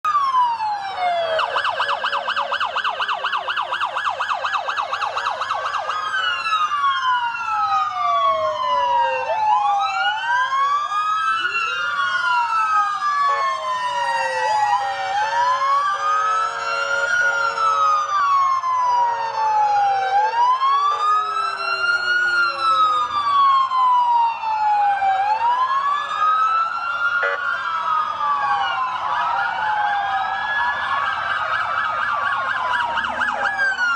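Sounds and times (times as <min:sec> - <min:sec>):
siren yelp: 0:00.0 - 0:33.9
sirens wailing: 0:00.0 - 0:33.9.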